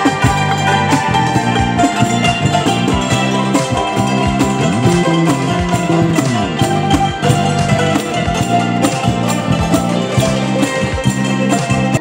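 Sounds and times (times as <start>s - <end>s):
electric bass notes: 0.0s - 12.0s
hammered dulcimers playing: 0.0s - 12.0s.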